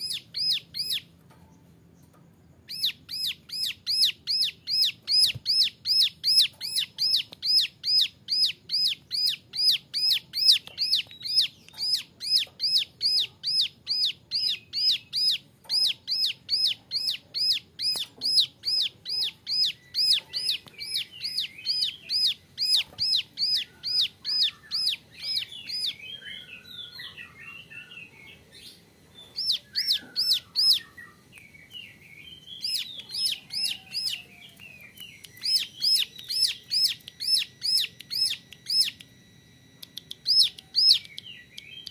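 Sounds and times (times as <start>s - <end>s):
bird twittering: 0.0s - 1.1s, 2.0s - 41.9s
bird singing sharp notes: 2.7s - 39.1s.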